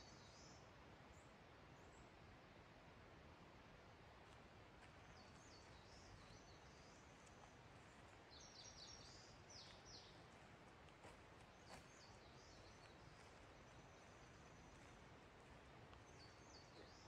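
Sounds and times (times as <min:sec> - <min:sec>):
small songbirds singing: 0:00.0 - 0:02.0, 0:05.0 - 0:17.0
quiet forest ambience: 0:00.0 - 0:17.0.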